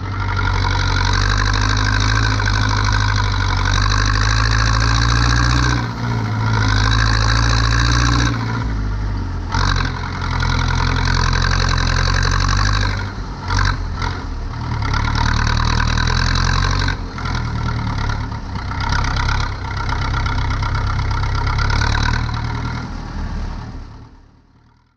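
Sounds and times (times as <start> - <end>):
tractor diesel engine under load: 0.0 - 24.9.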